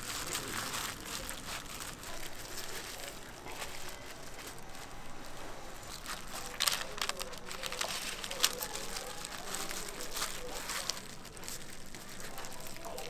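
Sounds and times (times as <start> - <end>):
bamboo mat clicking: 0.0 - 13.0
plastic gloves crinkling: 0.0 - 13.0.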